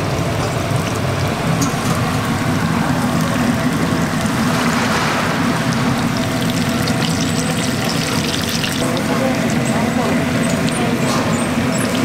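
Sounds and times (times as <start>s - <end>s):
food deep-frying in hot oil: 0.0s - 12.0s
oil crackles and pops: 0.0s - 12.0s.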